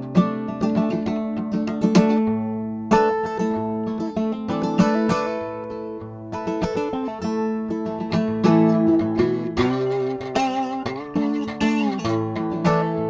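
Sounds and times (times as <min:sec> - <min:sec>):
fingerstyle slide acoustic guitar: 0:00.0 - 0:13.0.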